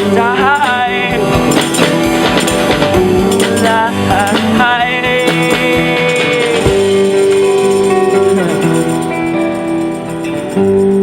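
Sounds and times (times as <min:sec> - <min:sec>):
rock band playing: 0:00.0 - 0:11.0
tambourine: 0:00.0 - 0:11.0.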